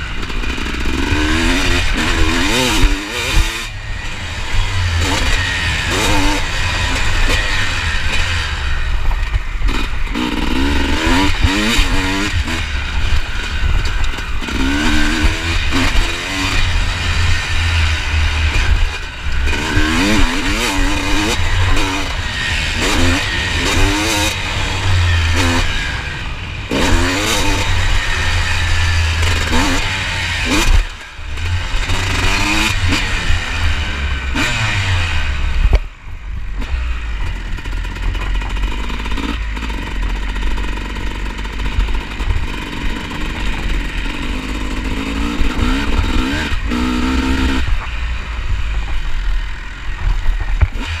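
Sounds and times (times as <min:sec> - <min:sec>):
motocross engine revving: 0:00.0 - 0:51.0.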